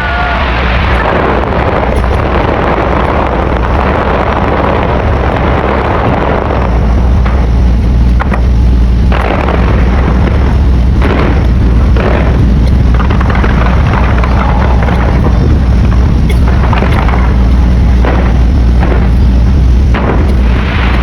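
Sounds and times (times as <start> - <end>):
fireworks bangs: 0.0 - 21.0
fireworks rumble: 0.0 - 21.0.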